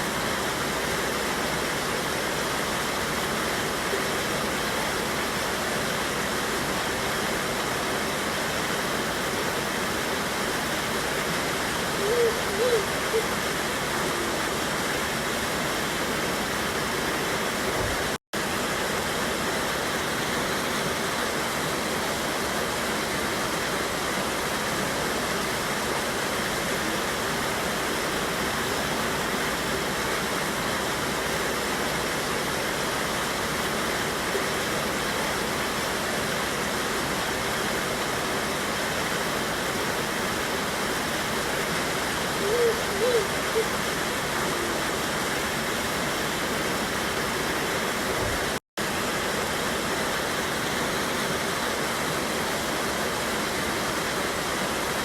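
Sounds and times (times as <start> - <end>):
river rushing over waterfall: 0.0 - 55.0.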